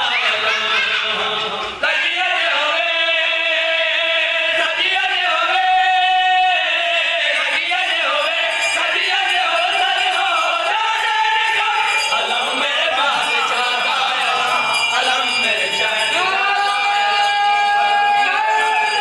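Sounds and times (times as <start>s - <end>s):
men chanting together: 0.0s - 19.0s.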